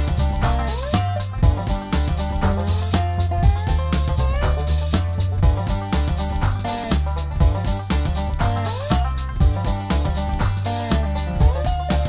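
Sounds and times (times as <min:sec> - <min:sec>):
bass line: 0:00.0 - 0:12.0
drums: 0:00.0 - 0:12.0.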